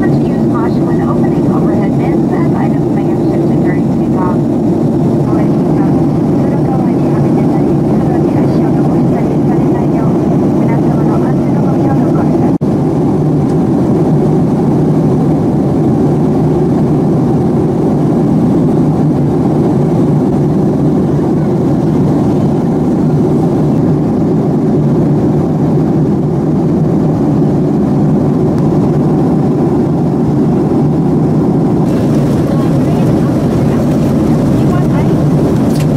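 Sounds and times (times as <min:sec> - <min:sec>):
jet engine cabin rush: 0:00.0 - 0:35.9.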